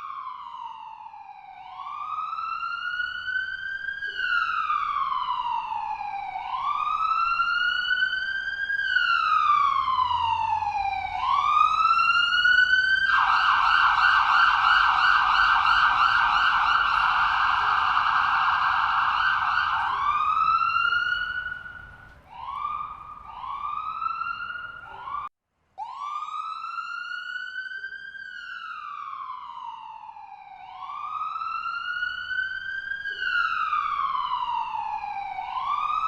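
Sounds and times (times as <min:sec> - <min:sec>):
ambulance siren: 0:00.0 - 0:36.0.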